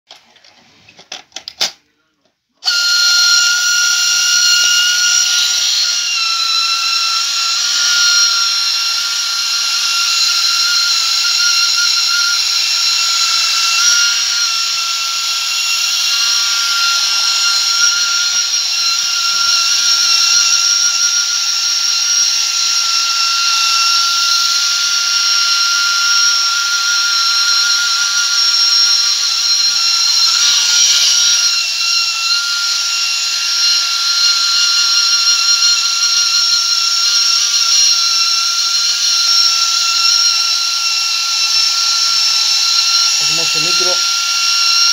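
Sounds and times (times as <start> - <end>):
toy motor whine: 2.6 - 44.9.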